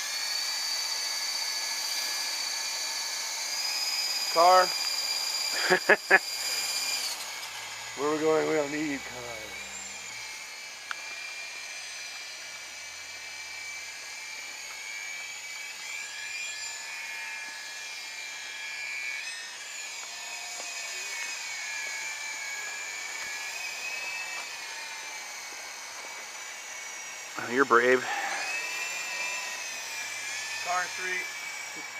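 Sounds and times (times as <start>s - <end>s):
model helicopter rotor whine: 0.0s - 31.9s.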